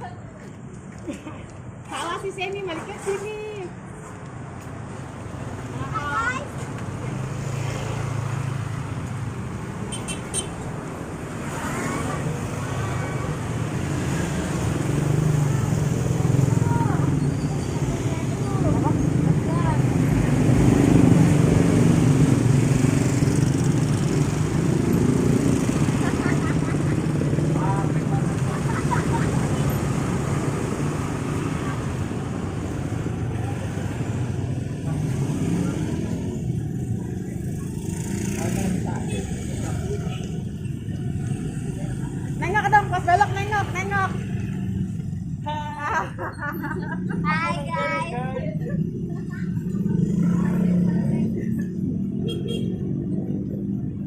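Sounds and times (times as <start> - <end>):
road vehicle rumbling: 0.0 - 54.0.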